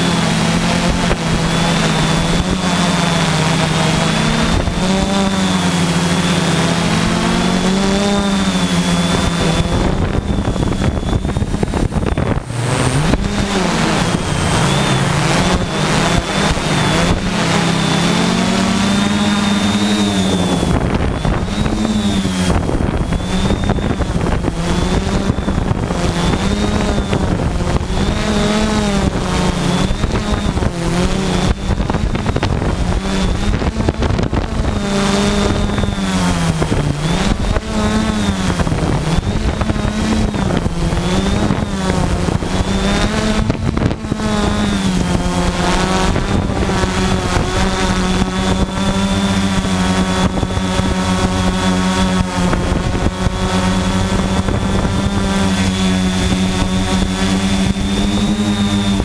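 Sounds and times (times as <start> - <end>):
drone motors humming: 0.0 - 59.0
wind noise on microphone: 0.0 - 59.0.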